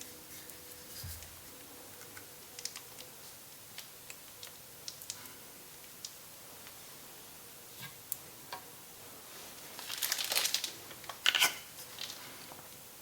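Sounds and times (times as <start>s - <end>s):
faint steady hum: 0.0s - 13.0s
room hiss: 0.0s - 13.0s.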